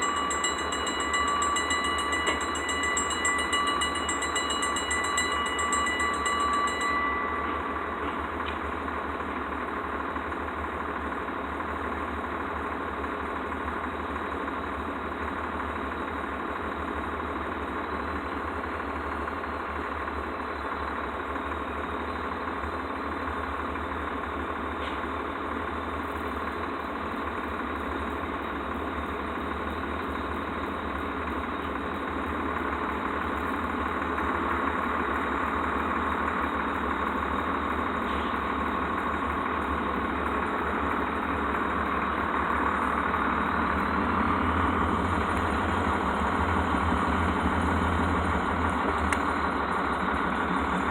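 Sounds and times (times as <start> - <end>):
diesel locomotive engine rumbling: 0.0 - 50.9.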